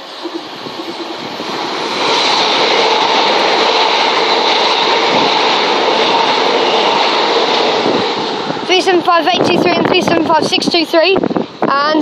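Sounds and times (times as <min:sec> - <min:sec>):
electric train approaching: 0:00.0 - 0:11.7.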